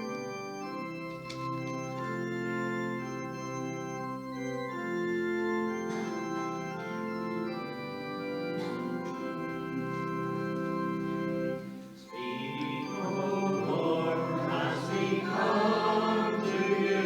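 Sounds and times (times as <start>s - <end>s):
organ playing held chords: 0.0s - 17.0s.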